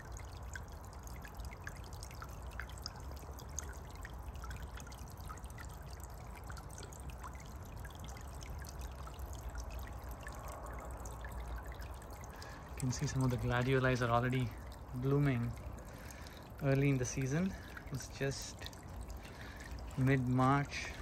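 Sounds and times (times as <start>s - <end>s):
fountain water trickling: 0.0s - 21.0s
water dripping and splashing: 0.0s - 21.0s.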